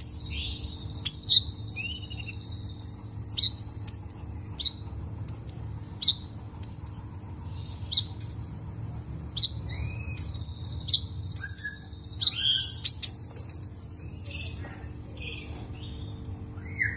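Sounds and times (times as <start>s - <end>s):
songbird chirping and warbling: 0.0s - 16.9s
steady low hum: 0.0s - 16.9s.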